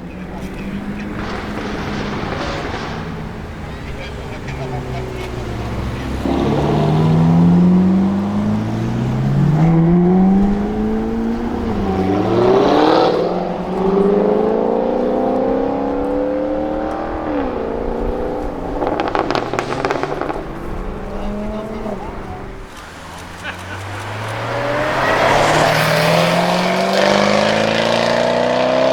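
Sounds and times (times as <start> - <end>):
exhaust pops and crackles: 0.0 - 27.9
car engine accelerating: 0.0 - 28.9.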